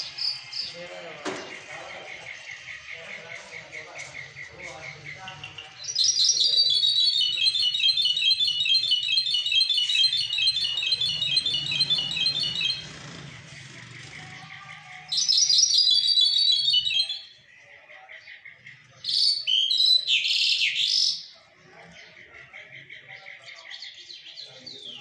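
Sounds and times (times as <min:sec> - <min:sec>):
songbird trilling and warbling: 0:01.4 - 0:25.0.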